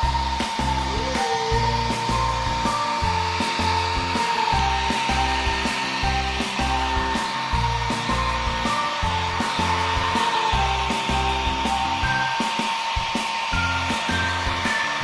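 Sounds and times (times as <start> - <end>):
background music with steady beat: 0.0 - 15.0
hair dryer blowing: 0.0 - 15.0.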